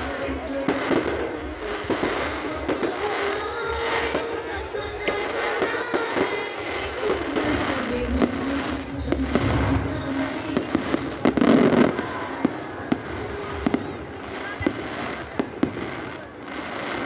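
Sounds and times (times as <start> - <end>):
fireworks bangs and crackling pops: 0.0 - 17.0.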